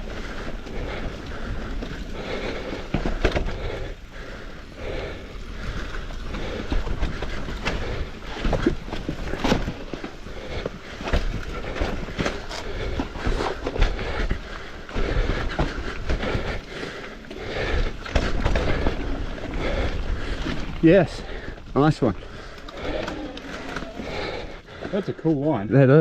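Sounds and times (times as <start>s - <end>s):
bike knocking and rattling: 0.0s - 25.6s
bike tyres rolling over dirt: 0.0s - 25.8s.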